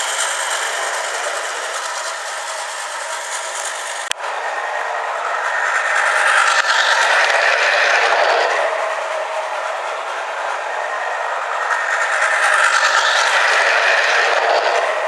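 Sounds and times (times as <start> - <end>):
toy train motor rattle: 0.0 - 15.0.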